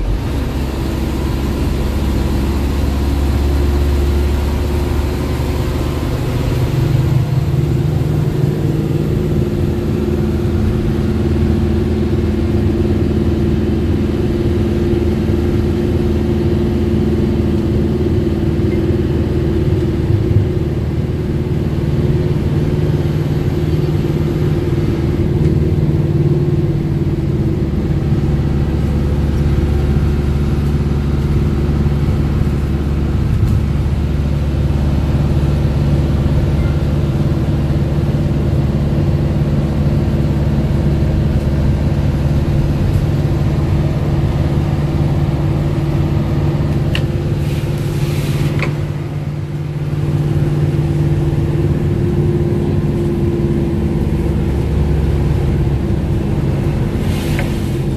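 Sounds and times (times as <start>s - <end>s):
road noise: 0.0s - 57.9s
vehicle engine drone: 0.0s - 57.9s.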